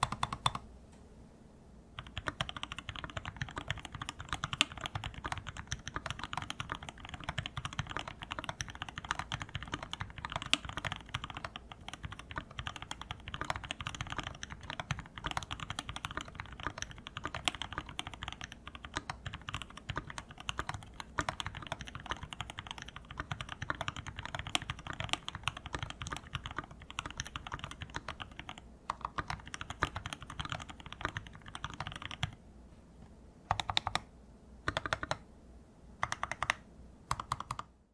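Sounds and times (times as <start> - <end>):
fast typing on mechanical keyboard: 0.0 - 0.6, 2.0 - 32.4, 33.5 - 34.0, 34.7 - 35.2, 36.0 - 37.7.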